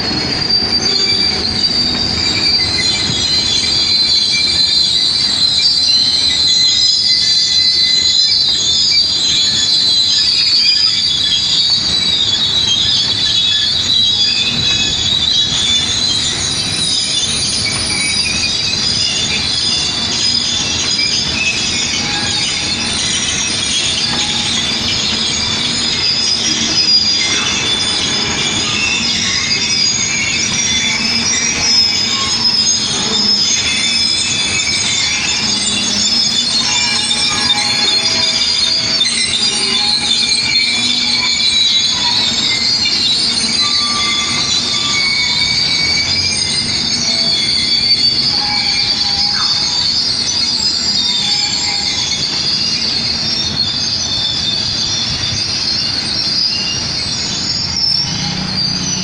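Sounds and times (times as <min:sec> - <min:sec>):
train rumble: 0:00.0 - 0:59.0
train wheels squealing on rails: 0:00.0 - 0:59.0.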